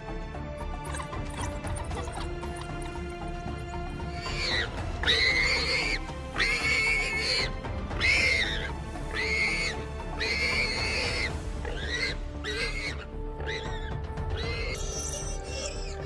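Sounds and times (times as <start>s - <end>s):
background music: 0.0s - 16.0s
animal squealing: 0.8s - 3.0s, 4.0s - 16.0s.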